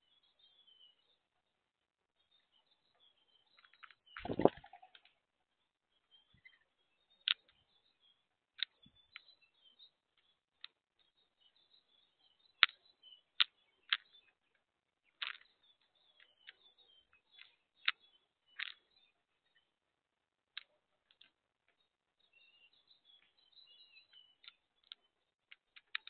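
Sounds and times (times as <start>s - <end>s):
faint bird chirps: 0.0s - 1.6s, 2.2s - 19.8s, 21.7s - 26.0s.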